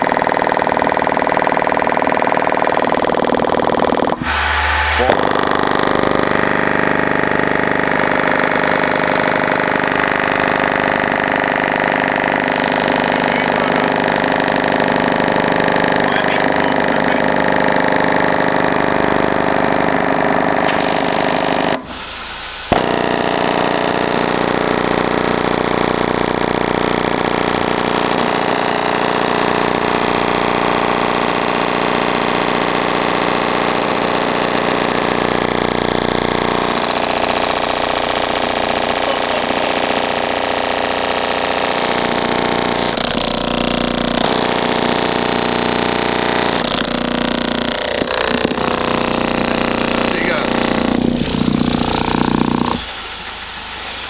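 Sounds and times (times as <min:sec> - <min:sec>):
subwoofer distorted buzz and rattle: 0:00.0 - 0:54.0.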